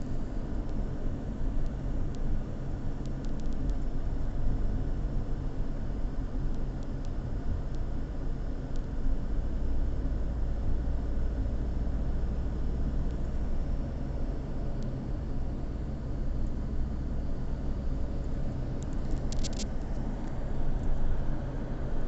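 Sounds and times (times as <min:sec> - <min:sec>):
car engine rumble: 0:00.0 - 0:22.0
road noise: 0:00.0 - 0:22.0.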